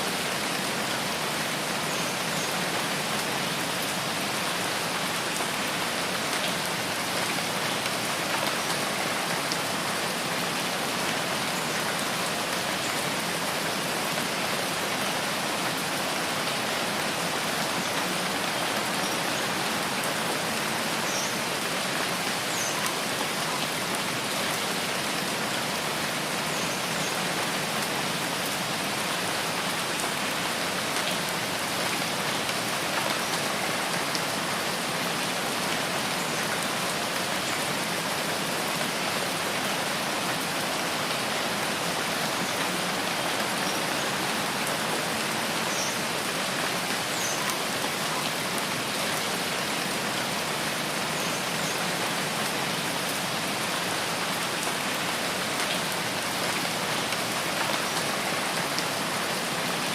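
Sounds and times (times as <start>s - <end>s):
steady rain on vegetation: 0.0s - 59.9s.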